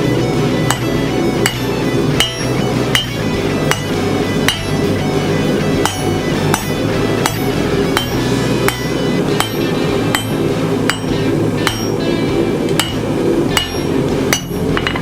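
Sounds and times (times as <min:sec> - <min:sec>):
hammer striking steel on anvil: 0:00.0 - 0:04.9, 0:05.8 - 0:12.0, 0:12.7 - 0:15.0
low drone: 0:00.0 - 0:15.0.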